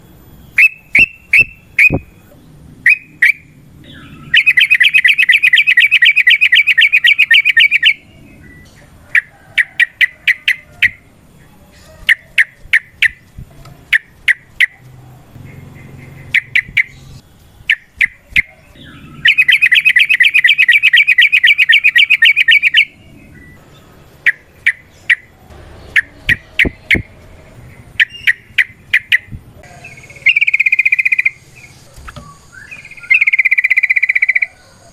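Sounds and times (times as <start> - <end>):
bird chirping: 0.4 - 34.9.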